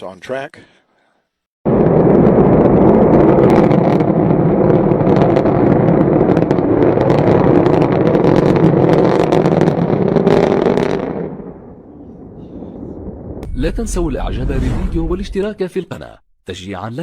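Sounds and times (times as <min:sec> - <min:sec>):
rocket engine roar: 0:01.7 - 0:15.5.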